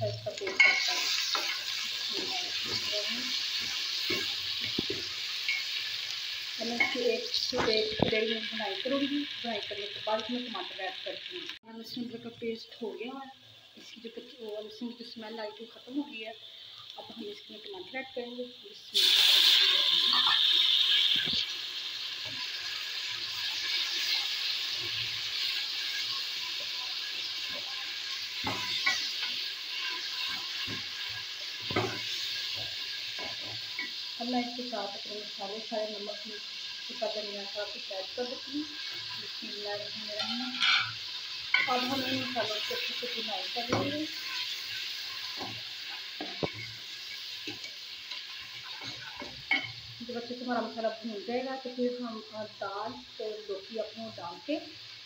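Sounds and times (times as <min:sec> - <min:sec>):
oil sizzling: 0:00.0 - 0:55.0.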